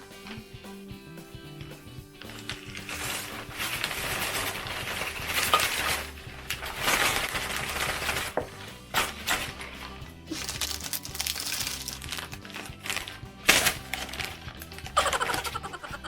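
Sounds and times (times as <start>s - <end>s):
plastic rustling and rattling: 2.2s - 16.0s.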